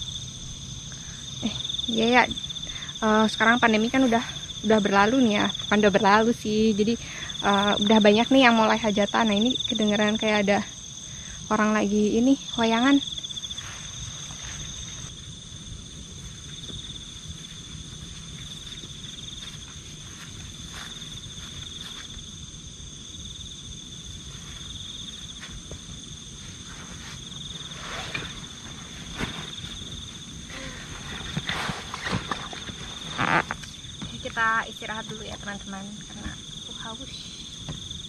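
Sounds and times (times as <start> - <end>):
night insects trilling: 0.0 - 38.0.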